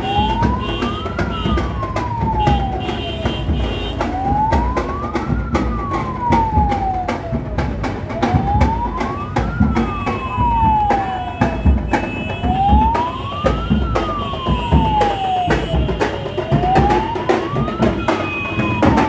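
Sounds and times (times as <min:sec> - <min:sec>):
siren wailing: 0:00.0 - 0:19.0
street traffic rumble: 0:00.0 - 0:19.0.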